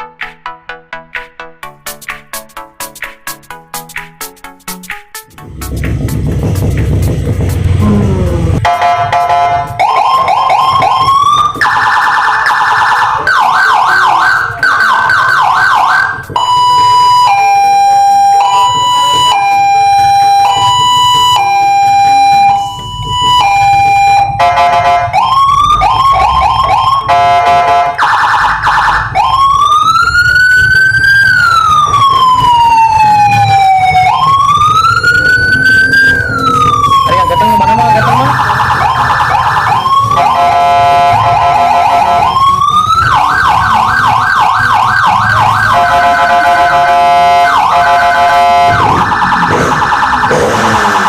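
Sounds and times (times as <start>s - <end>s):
electronic police siren: 7.5s - 51.0s.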